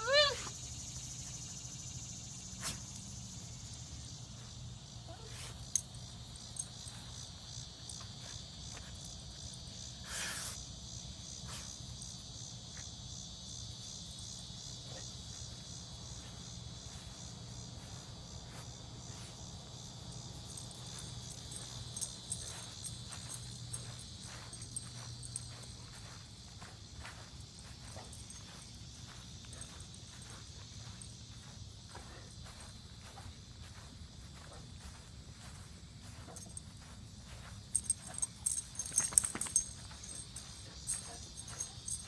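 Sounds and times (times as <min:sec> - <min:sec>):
insects buzzing: 0:00.0 - 0:42.0.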